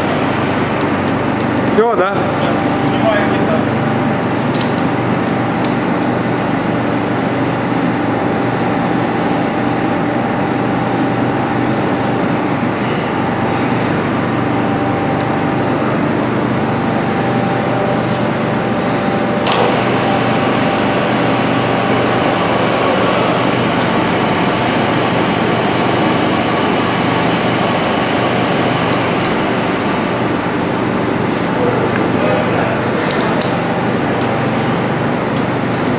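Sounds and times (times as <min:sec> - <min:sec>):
metal lathe humming: 0:00.0 - 0:31.4.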